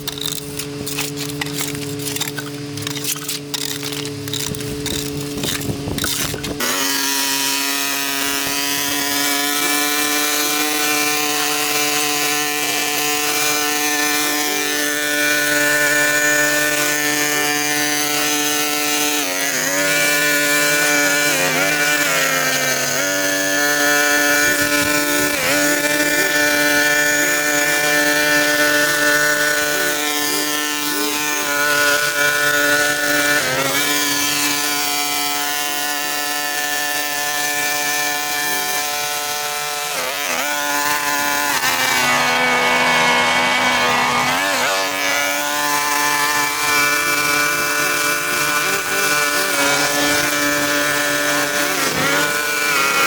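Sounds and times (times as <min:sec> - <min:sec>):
small-engine power tool cutting: 0:00.0 - 0:53.0.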